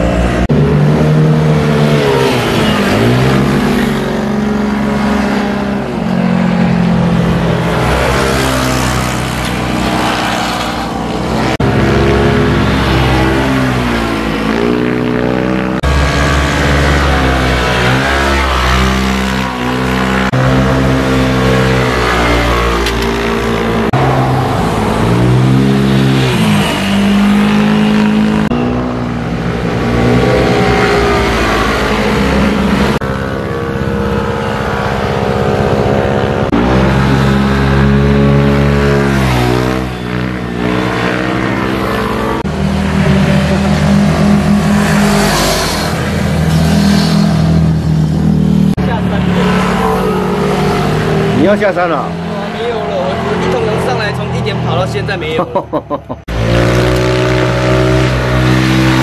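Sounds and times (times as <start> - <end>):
motorcycles passing by revving: 0.0 - 59.0.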